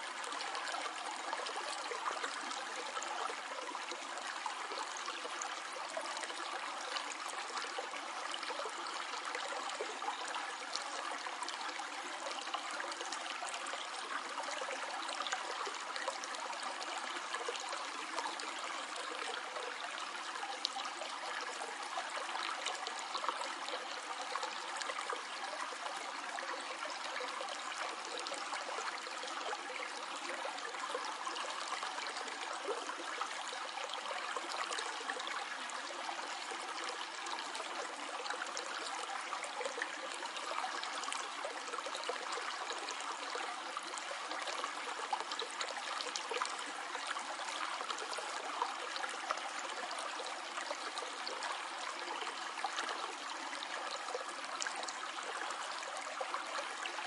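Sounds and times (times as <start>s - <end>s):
stream water trickling over stones: 0.0s - 57.0s.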